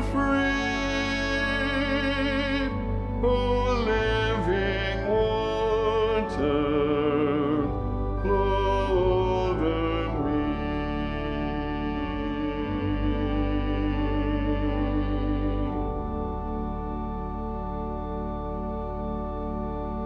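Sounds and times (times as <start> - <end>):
sustained accompaniment: 0.0 - 20.0.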